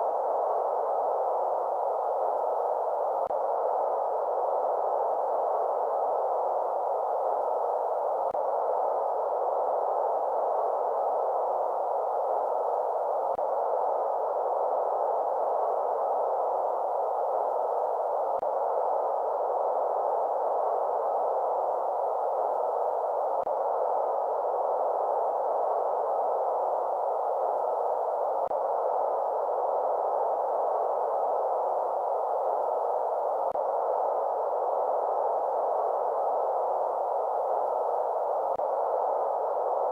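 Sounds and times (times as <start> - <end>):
soft white noise hush: 0.0 - 39.9.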